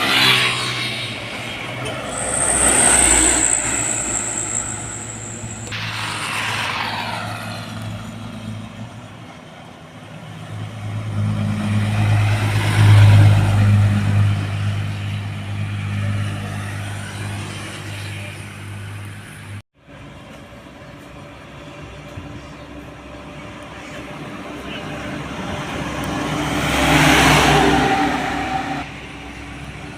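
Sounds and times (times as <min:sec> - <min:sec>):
diesel truck engine drone: 0:00.0 - 0:29.9.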